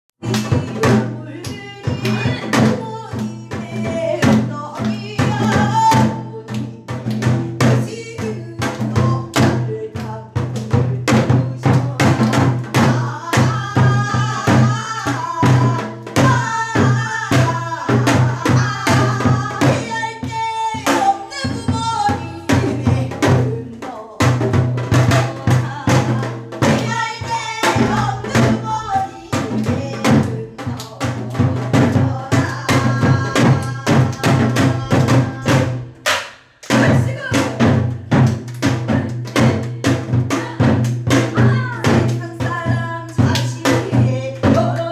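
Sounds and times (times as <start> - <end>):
barrel drums steady beat: 0.2 - 44.9
women singing with vibrato: 0.2 - 44.9.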